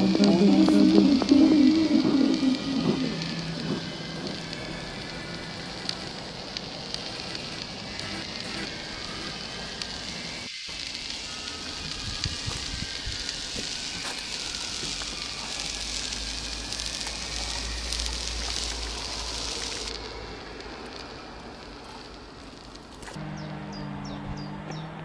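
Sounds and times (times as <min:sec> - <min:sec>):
crackling hissing noise: 0:00.0 - 0:23.6
low rumble: 0:00.0 - 0:24.8.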